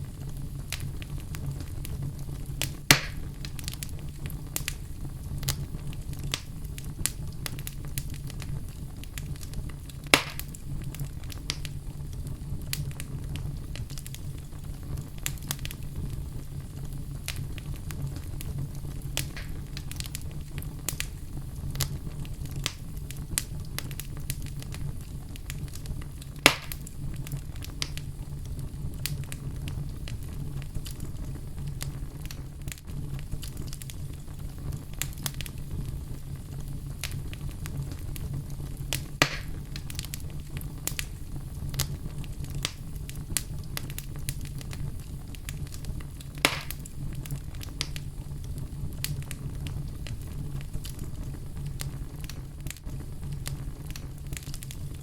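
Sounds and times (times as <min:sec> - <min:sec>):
loud fire pops: 0:00.0 - 0:55.0
wood fire crackling: 0:00.0 - 0:55.0.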